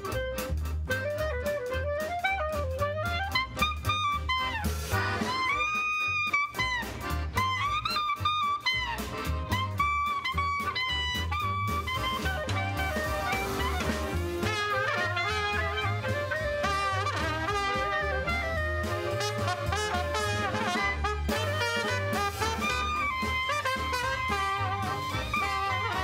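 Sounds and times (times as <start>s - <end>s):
band playing live: 0.0s - 26.0s.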